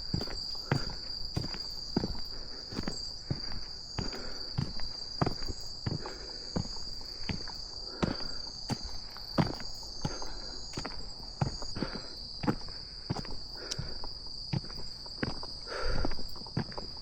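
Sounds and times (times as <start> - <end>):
footsteps walking: 0.0 - 15.6
high-pitched insect chorus: 0.0 - 17.0.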